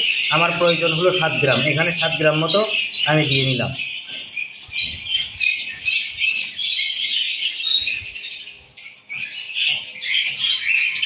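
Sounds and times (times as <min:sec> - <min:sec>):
small birds chirping and chattering: 0:00.0 - 0:11.0.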